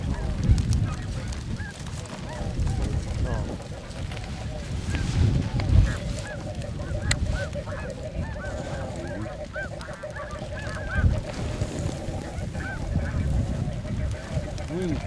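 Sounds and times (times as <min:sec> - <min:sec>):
snow geese calling: 0:00.0 - 0:15.0
wind buffeting microphone: 0:00.0 - 0:15.0.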